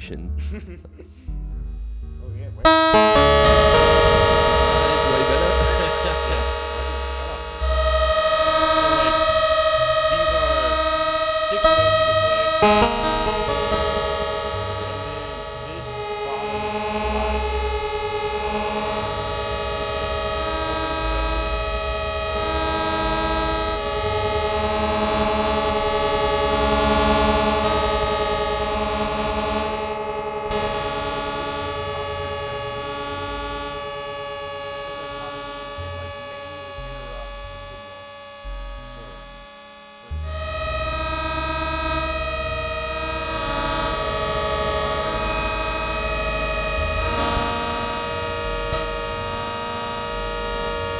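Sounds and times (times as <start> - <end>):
electronic drone tones: 0.0 - 50.9
low bass notes: 0.0 - 50.9.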